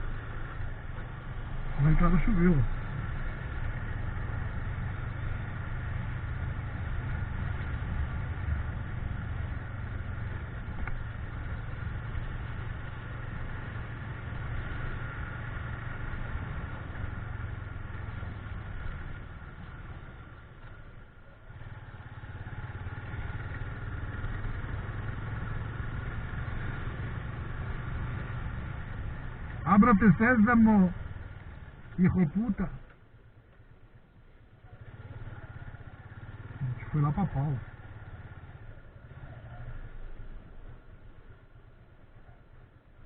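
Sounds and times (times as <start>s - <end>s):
motorcycle engine running: 0.0s - 43.0s
road and wind noise: 0.0s - 43.0s.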